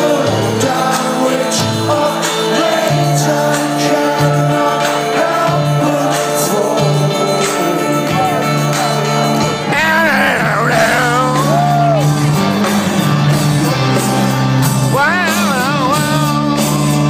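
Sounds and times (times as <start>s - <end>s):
person singing: 0.0s - 12.2s, 14.8s - 17.0s
live band playing: 0.0s - 17.0s.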